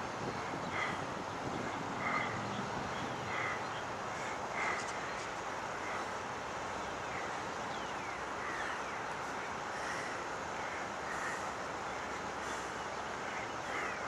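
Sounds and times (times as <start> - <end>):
birds calling: 0.0 - 14.0
steady background hiss: 0.0 - 14.0.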